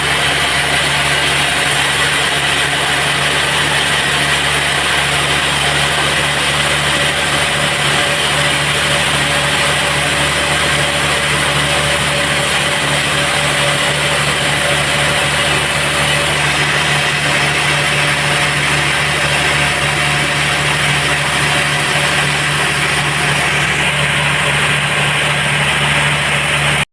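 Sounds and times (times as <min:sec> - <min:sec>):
bandsaw machinery humming: 0:00.0 - 0:26.9.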